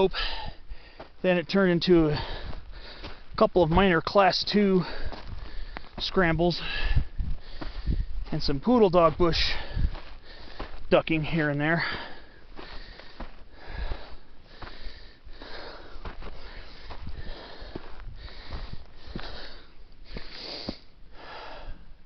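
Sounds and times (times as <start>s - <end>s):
man breathing hard: 0.0s - 1.2s, 2.0s - 3.4s, 4.7s - 8.3s, 9.4s - 10.9s, 11.7s - 22.0s
footsteps on rocky ground: 0.0s - 21.7s.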